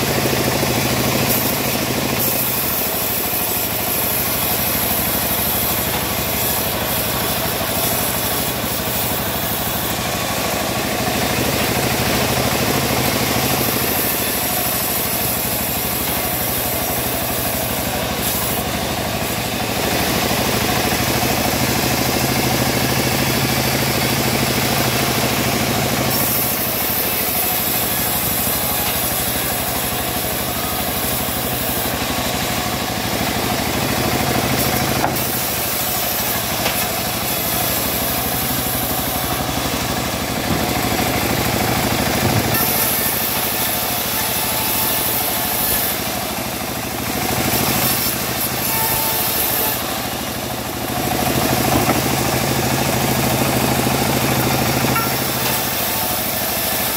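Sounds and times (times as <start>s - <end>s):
bandsaw mill motor running: 0.0s - 56.9s
saw blade hissing through log: 0.0s - 56.9s.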